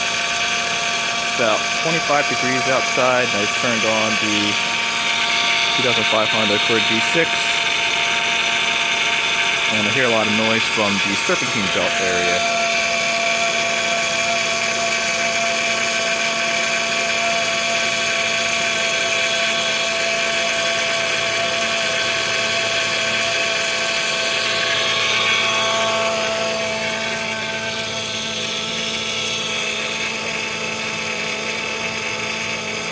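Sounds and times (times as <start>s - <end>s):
belt whirring whine: 0.0s - 32.9s.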